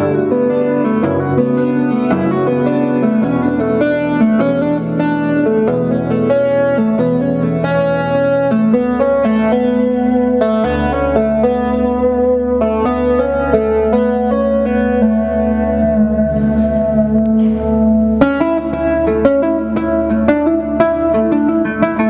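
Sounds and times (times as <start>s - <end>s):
acoustic guitar plucking: 0.0s - 22.0s.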